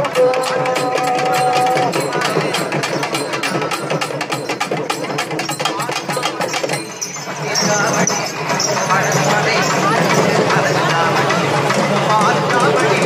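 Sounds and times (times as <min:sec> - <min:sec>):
crowd voices: 0:00.0 - 0:13.0
procession drums beating: 0:00.0 - 0:13.0.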